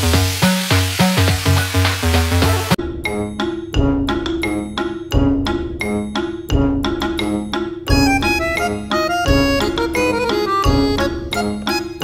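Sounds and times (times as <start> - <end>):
melody of quick notes: 1.6 - 12.0.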